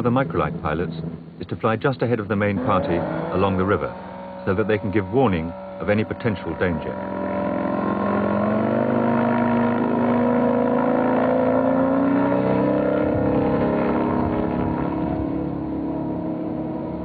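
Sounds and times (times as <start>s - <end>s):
light aircraft engine at high power: 2.7s - 17.0s.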